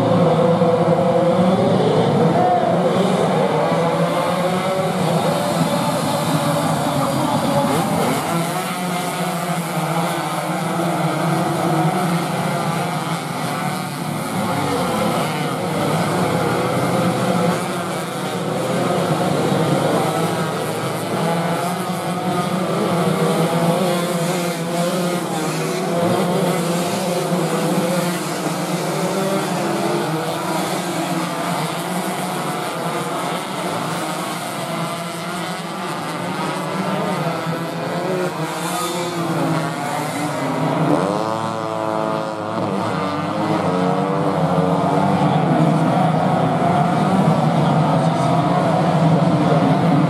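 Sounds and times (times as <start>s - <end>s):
racing motorcycles high-revving: 0.0s - 50.0s.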